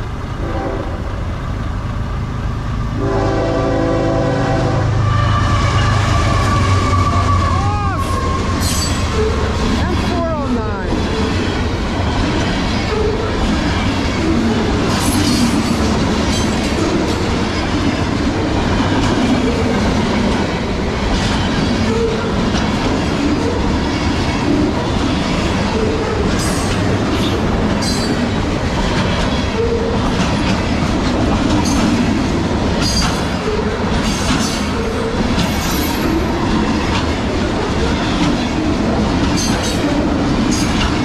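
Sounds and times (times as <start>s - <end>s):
steel wheels rumbling on rails: 0.0s - 41.0s.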